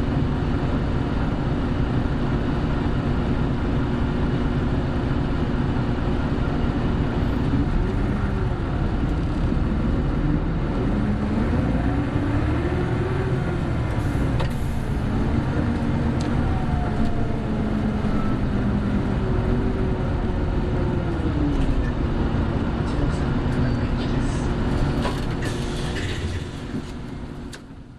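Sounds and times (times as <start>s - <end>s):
bus engine running: 0.0s - 27.9s.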